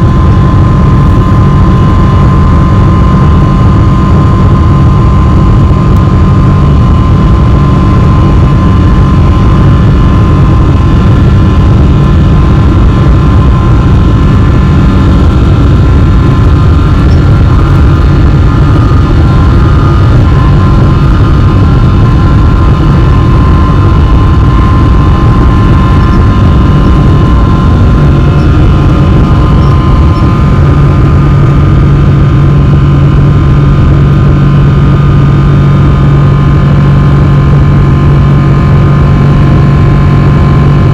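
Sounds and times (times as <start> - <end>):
deep hum: 0.0 - 40.9
jet engines roaring with whine: 0.0 - 40.9.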